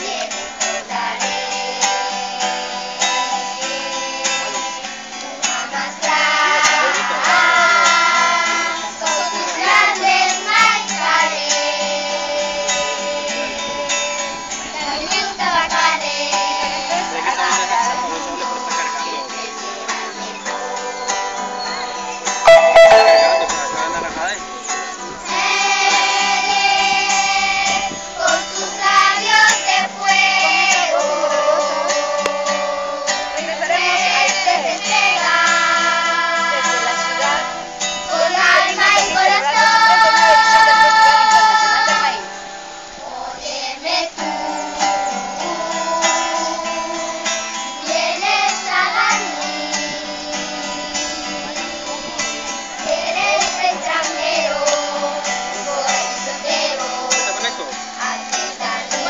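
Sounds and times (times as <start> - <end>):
children's choir singing: 0.0 - 42.4, 43.0 - 59.0
acoustic guitar: 0.0 - 59.0.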